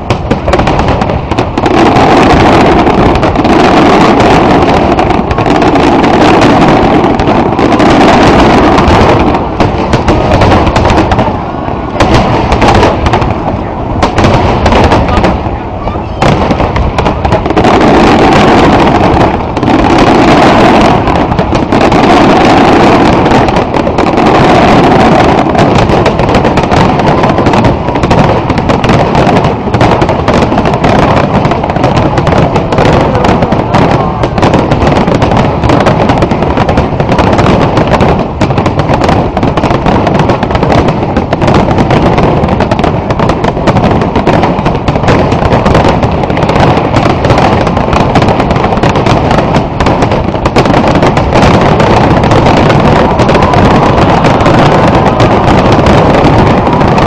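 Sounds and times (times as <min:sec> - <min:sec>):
fireworks bursts and crackle: 0:00.0 - 0:57.0.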